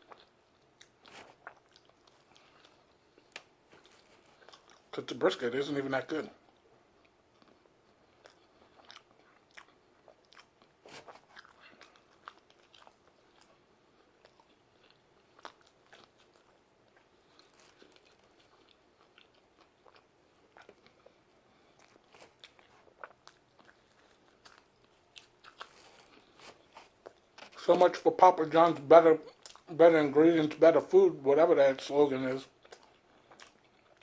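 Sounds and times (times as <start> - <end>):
man chewing pizza: 0.0 - 5.1, 6.4 - 29.8, 32.4 - 34.0.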